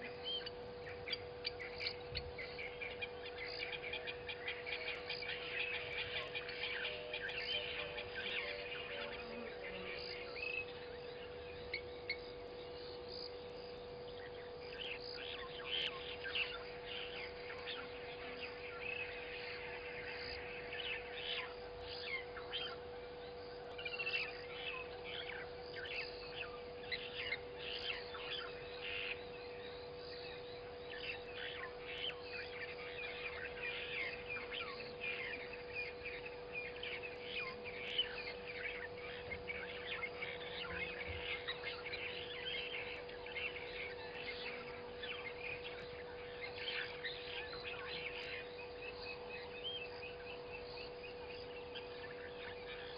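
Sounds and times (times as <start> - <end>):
low electrical hum: 0.0 - 52.9
small birds chirping: 0.0 - 52.9.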